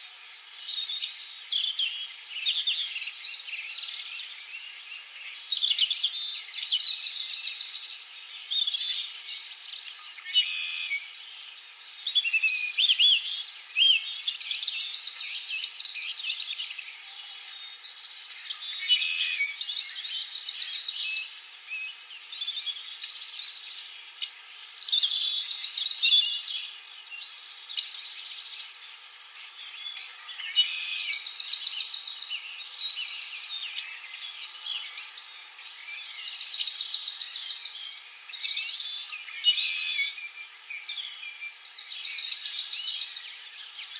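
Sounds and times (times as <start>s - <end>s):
songbirds singing: 0.0s - 43.9s
steady high hiss: 0.0s - 43.9s.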